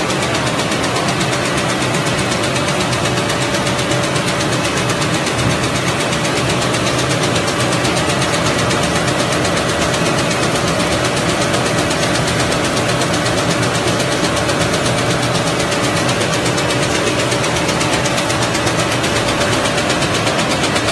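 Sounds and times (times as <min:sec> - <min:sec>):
machine mechanical drone: 0:00.0 - 0:20.9.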